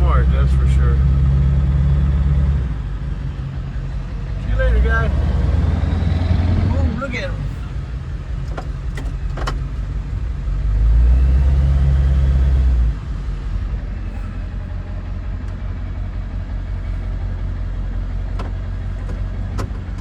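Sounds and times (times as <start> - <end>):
car engine idling: 0.0 - 11.0, 11.7 - 20.0.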